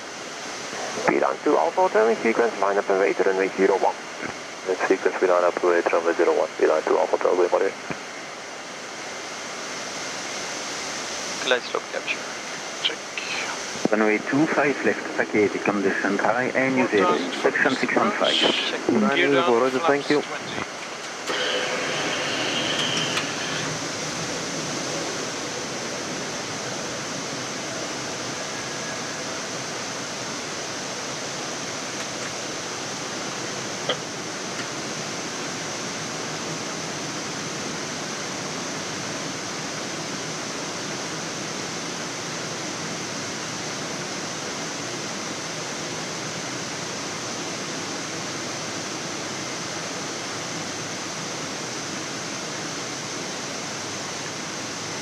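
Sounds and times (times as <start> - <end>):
rushing airflow hiss: 0.0 - 2.9, 7.7 - 55.0.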